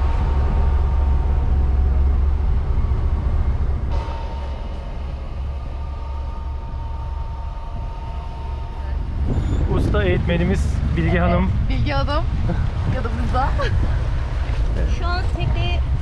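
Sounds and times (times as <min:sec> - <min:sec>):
boat engine rumble: 0:00.0 - 0:16.0
thin steady whine: 0:00.0 - 0:16.0.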